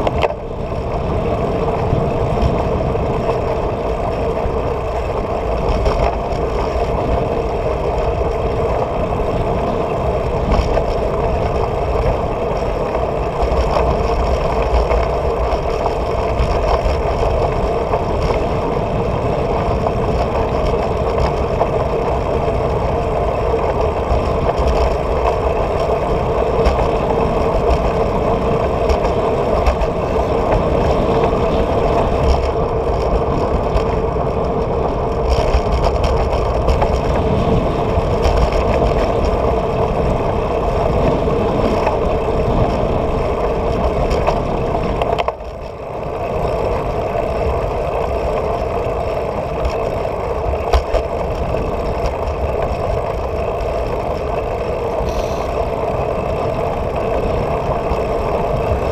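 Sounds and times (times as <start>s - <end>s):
tyre and road noise: 0.0s - 58.9s
wind on microphone: 0.0s - 58.9s.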